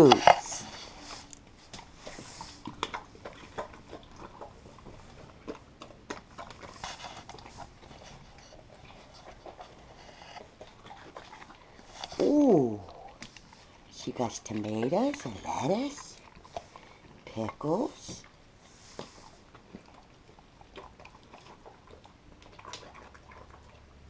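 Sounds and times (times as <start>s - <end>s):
dog chewing vegetables: 0.0s - 24.0s.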